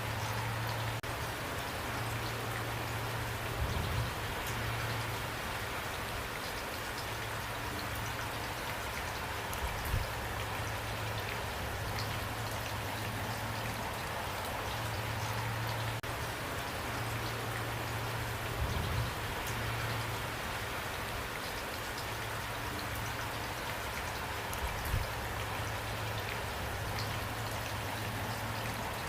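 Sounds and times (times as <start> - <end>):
raindrops ticking: 0.0 - 29.0
steady rainfall hiss: 0.0 - 29.0.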